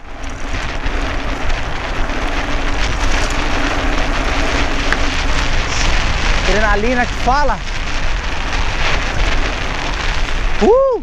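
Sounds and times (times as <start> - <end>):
bike tyres rolling on dirt: 0.0 - 11.0
wind rushing past camera: 0.0 - 11.0.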